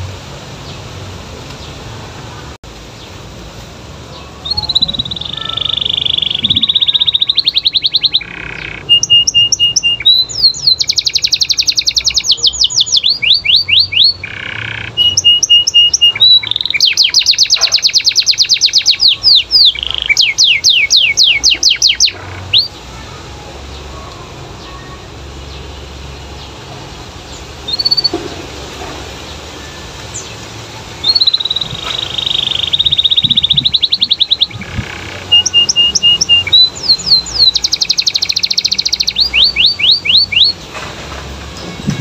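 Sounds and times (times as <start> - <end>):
canary singing trills: 4.0 - 40.7.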